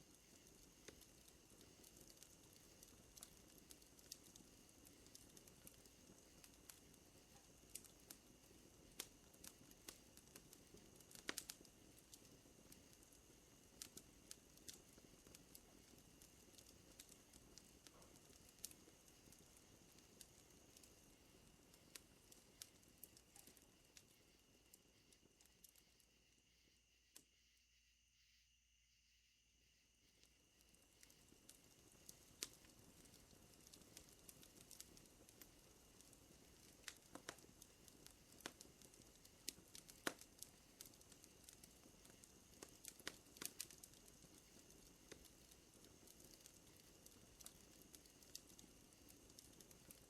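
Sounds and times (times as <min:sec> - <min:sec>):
campfire crackling and popping: 0:00.0 - 0:26.0, 0:30.2 - 0:50.0
night insects droning: 0:00.0 - 0:50.0.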